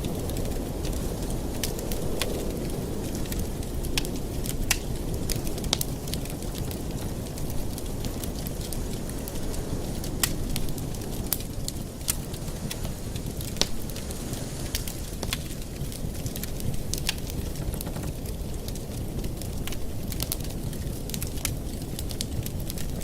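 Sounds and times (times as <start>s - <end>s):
fire snapping: 0.0s - 23.0s
wood fire crackling and popping: 0.0s - 23.0s.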